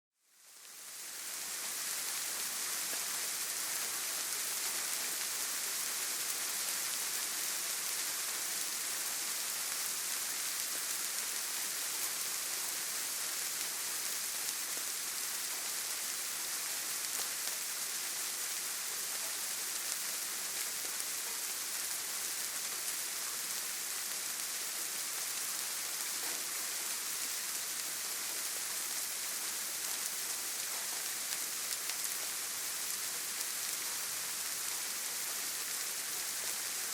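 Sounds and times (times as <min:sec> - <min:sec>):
rain falling: 0:00.3 - 0:36.9.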